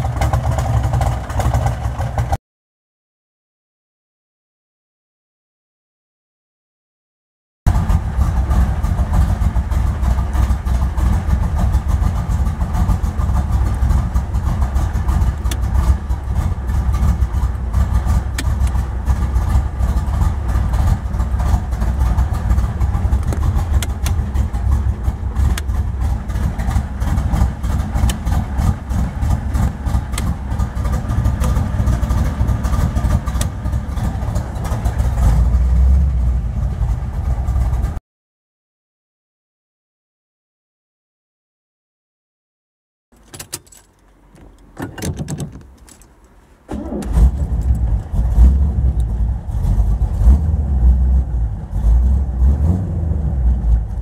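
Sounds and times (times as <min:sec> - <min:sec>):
car engine idling: 0:00.0 - 0:02.4, 0:07.7 - 0:38.0, 0:43.2 - 0:54.0.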